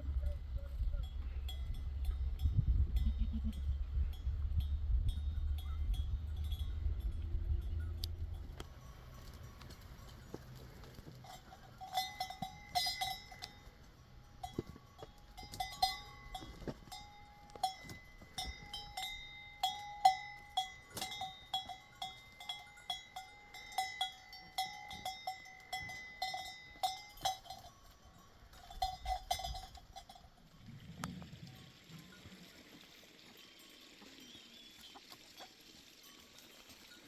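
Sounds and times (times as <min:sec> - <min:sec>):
metal livestock bell clanking: 0:00.1 - 0:37.0.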